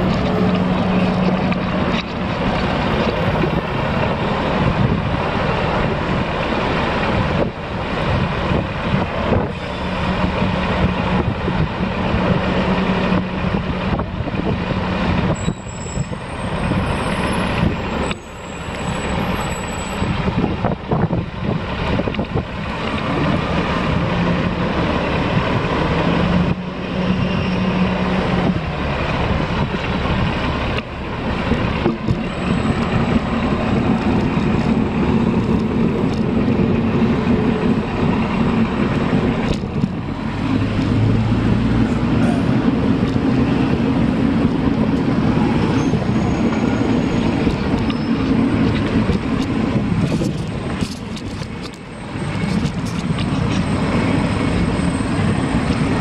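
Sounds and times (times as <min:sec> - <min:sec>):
low engine hum: 0:00.0 - 0:56.0
rush of traffic: 0:00.0 - 0:56.0
wind: 0:00.0 - 0:56.0.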